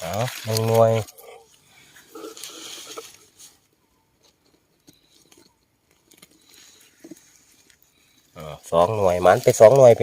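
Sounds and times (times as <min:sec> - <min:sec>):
scraping of soil and leaves: 0:00.0 - 0:10.0.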